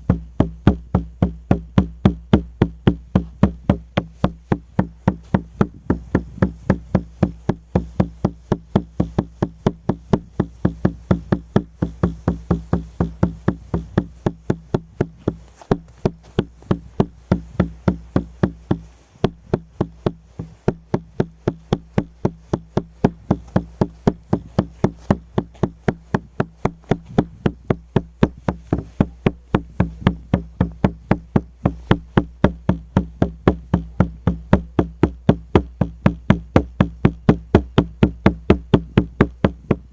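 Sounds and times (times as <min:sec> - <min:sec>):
frame drum beaten in steady rhythm: 0:00.0 - 0:39.9.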